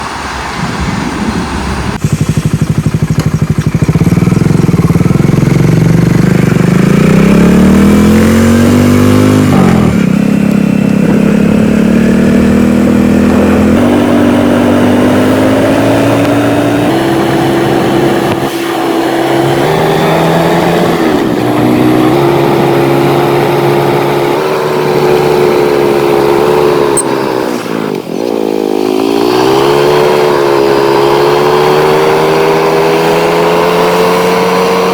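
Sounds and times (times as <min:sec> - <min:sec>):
motorcycle engine accelerating: 0:00.8 - 0:34.9.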